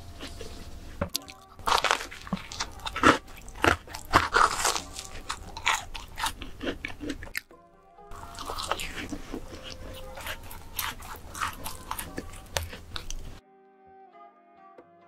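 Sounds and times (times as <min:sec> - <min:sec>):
crunchy chewing of a donut: 0:00.0 - 0:07.5, 0:08.1 - 0:13.4.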